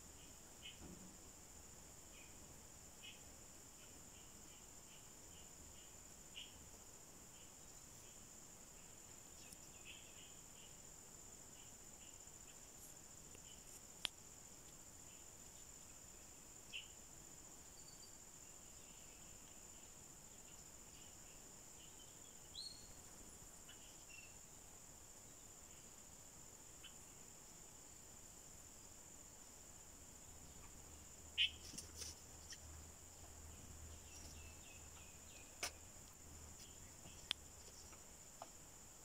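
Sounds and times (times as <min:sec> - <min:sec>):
faint chirps and ticks: 0:00.0 - 0:39.0.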